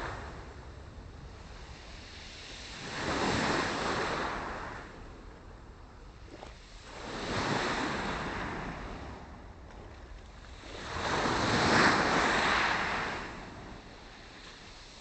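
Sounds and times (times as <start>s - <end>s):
small waves breaking on shore: 0.0s - 5.2s, 6.1s - 15.0s.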